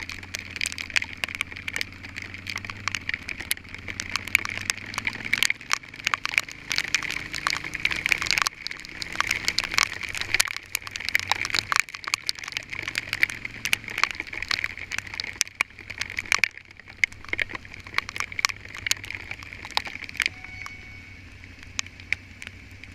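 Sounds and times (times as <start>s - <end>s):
hail clattering on a vehicle: 0.0s - 22.9s
low engine hum: 0.0s - 22.9s.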